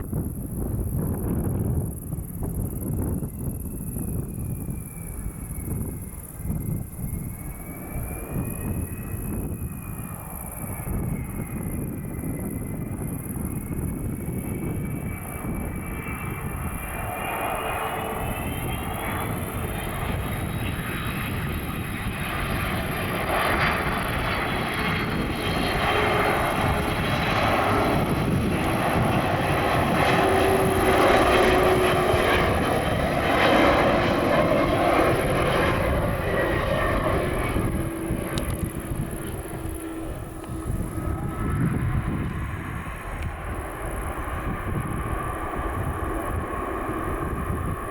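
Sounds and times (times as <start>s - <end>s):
high jet engine whine: 0.0s - 47.9s
jet engines rumbling: 0.0s - 47.9s.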